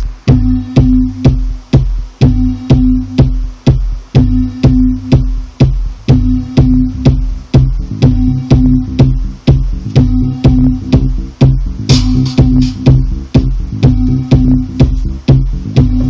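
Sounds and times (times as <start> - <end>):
steady electronic beat: 0.0 - 16.0
synthesizer electronic pattern: 0.0 - 16.0.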